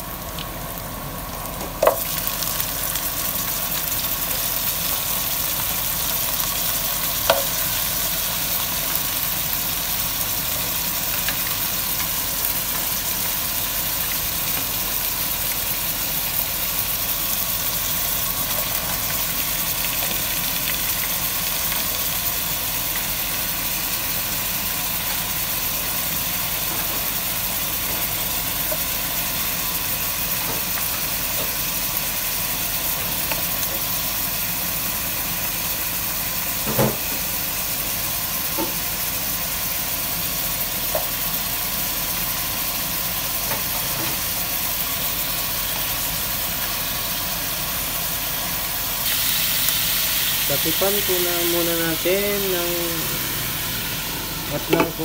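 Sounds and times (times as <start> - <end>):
meat sizzling in a pot: 0.0 - 55.0.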